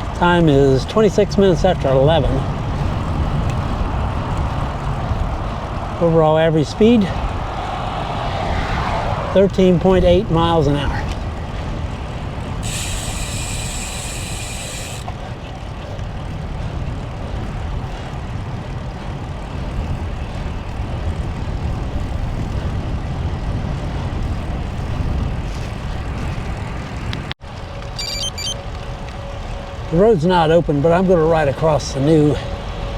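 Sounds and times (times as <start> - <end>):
wind rumbling on microphone: 0.0 - 27.9, 28.6 - 32.9
road traffic noise: 0.0 - 32.9.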